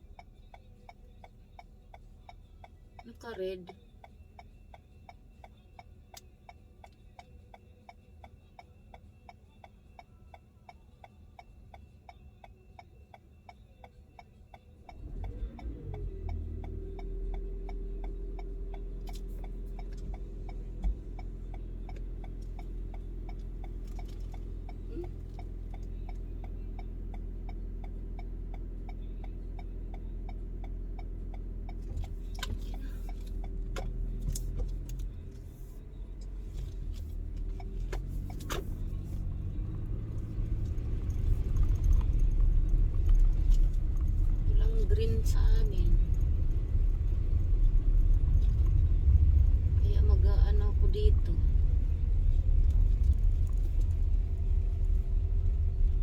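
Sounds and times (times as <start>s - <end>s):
low rumble with held hum: 0.0s - 56.0s
turn signal ticking: 0.0s - 56.0s.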